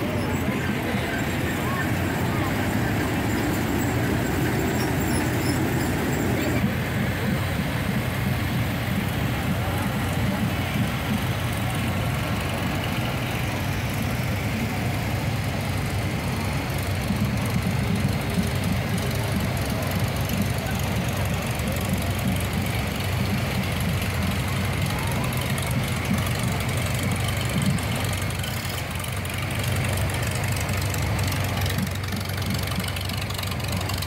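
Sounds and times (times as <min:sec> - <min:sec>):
tractor engines running: 0:00.0 - 0:34.0.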